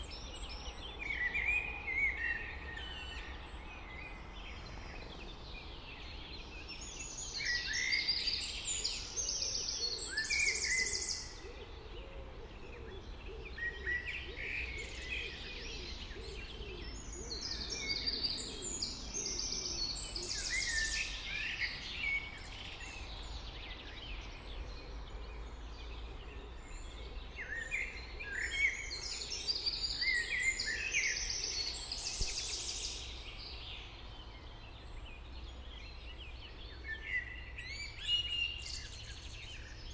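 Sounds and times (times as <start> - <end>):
songbird singing with trill: 0.0 - 39.9.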